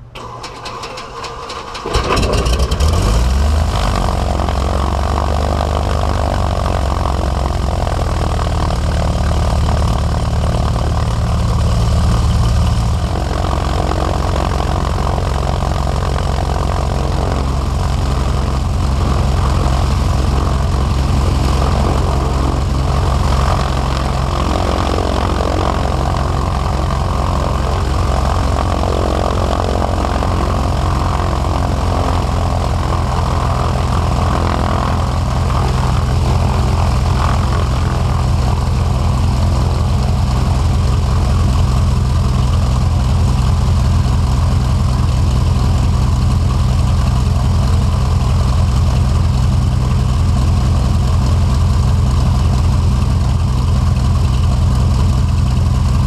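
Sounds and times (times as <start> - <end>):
airplane piston engine running: 0.2 - 56.0.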